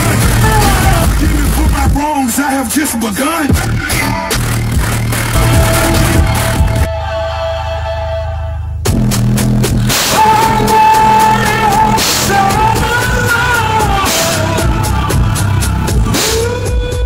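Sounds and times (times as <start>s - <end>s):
song with singing and drum beat: 0.0s - 6.9s, 8.9s - 17.0s
heavy bass from subwoofers: 0.0s - 17.0s.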